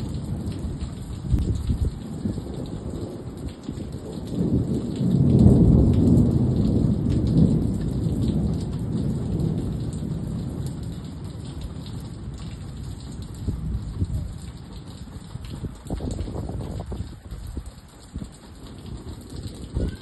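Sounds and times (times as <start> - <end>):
deep roll of thunder: 0.0 - 20.0
rain falling steadily: 0.0 - 20.0.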